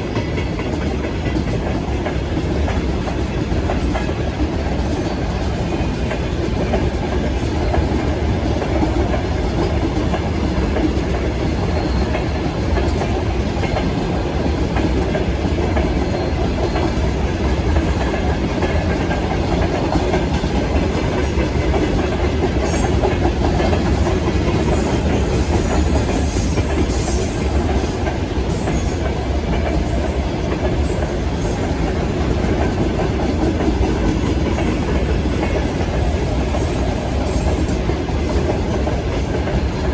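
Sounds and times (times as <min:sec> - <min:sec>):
train wheels clattering: 0:00.0 - 0:39.9.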